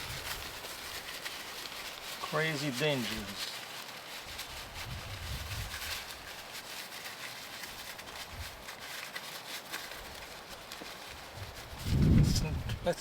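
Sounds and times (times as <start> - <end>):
rain pattering on a tarp: 0.0 - 13.0.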